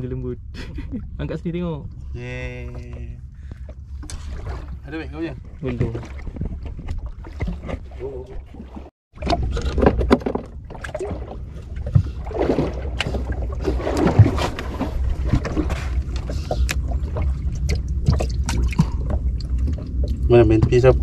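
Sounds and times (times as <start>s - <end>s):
steady low rumble: 0.0s - 21.0s
knocks and clicks on boat: 2.8s - 21.0s.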